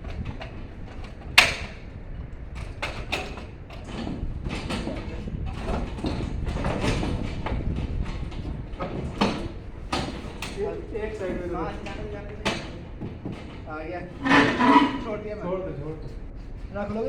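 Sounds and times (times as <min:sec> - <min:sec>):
air conditioner unit clanking: 0:00.0 - 0:17.0.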